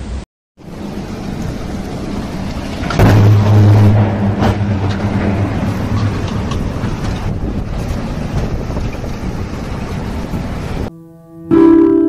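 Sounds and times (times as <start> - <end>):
storm wind and rain roaring: 0.0 - 10.9.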